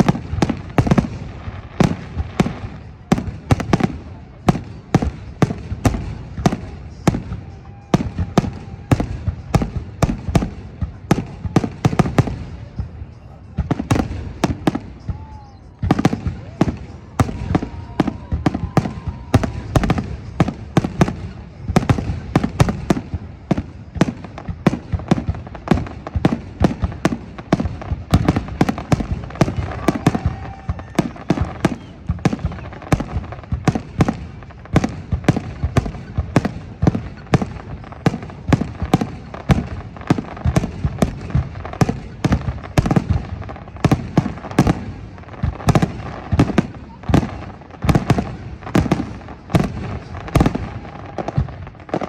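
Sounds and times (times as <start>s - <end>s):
fireworks bangs and pops: 0.0s - 52.0s.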